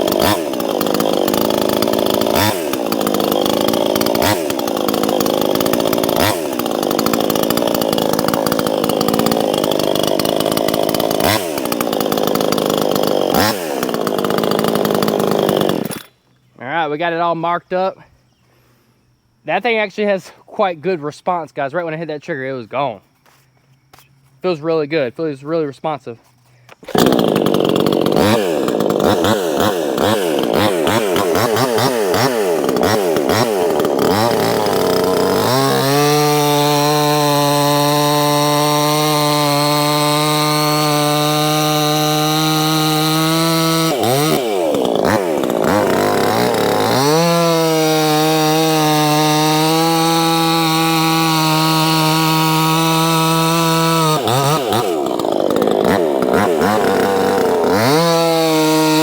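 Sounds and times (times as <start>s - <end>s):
chainsaw cutting wood: 0.0s - 16.2s, 26.7s - 59.0s.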